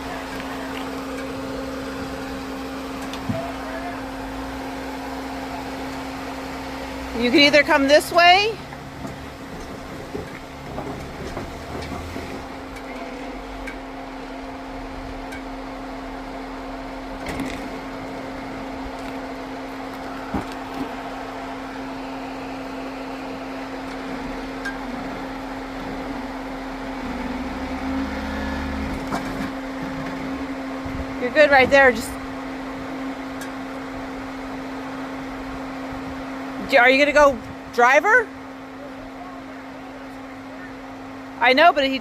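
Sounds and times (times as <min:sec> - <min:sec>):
vehicle engine running at low revs: 0:00.0 - 0:42.0.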